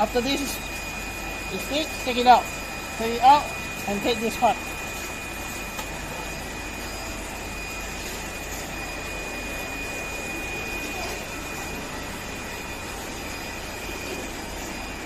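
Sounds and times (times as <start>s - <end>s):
mechanical hum: 0.0s - 15.0s
thin high whine: 0.0s - 15.0s.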